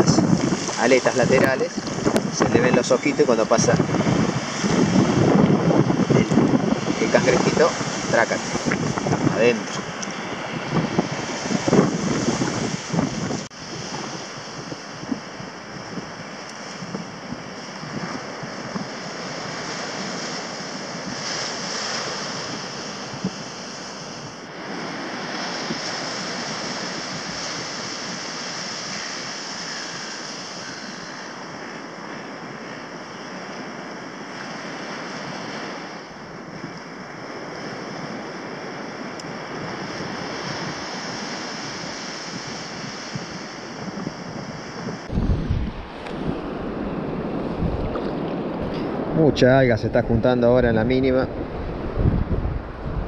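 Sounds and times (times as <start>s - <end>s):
sea surf breaking on beach: 0.0s - 53.0s
wind buffeting microphone: 0.0s - 53.0s.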